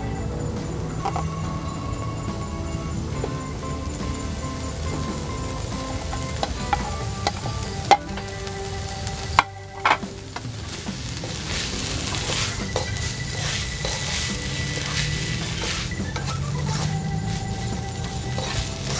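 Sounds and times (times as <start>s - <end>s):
filling sizzling in a hot pan: 0.0s - 18.9s.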